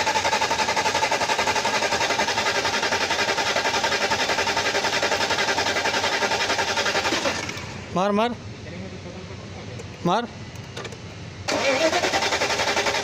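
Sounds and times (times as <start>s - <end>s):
starter motor cranking engine: 0.0s - 7.9s, 9.8s - 13.0s.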